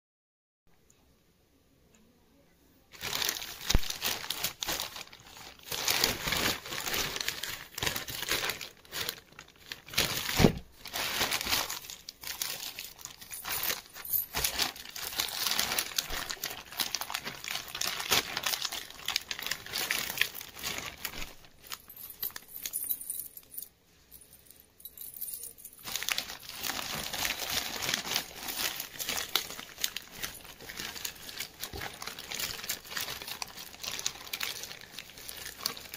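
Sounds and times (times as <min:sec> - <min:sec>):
plastic bag crinkling: 0:02.9 - 0:35.9.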